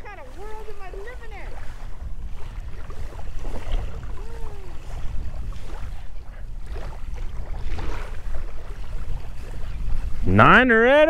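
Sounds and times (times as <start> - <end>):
small waves lapping: 0.0 - 11.0
wind buffeting microphone: 0.0 - 11.0.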